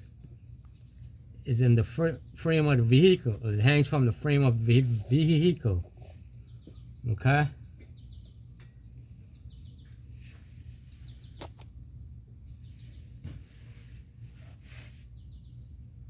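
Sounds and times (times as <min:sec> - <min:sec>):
high insect drone: 0:00.0 - 0:16.0
short insect chirps: 0:00.0 - 0:16.0.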